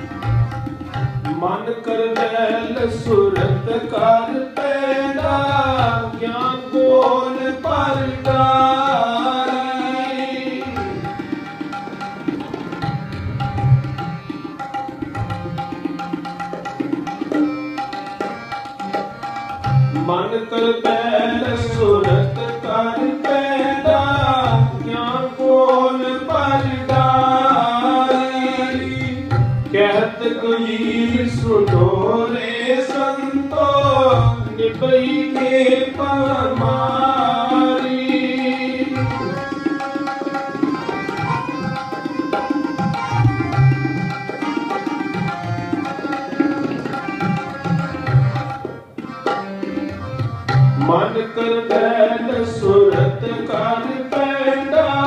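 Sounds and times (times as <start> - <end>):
harmonium tones: 0.0 - 55.0
tabla playing rhythm: 0.0 - 55.0.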